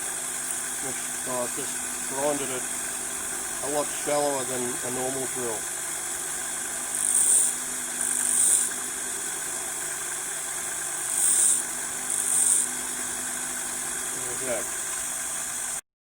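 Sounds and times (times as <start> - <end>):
steady machine hum: 0.0 - 15.8.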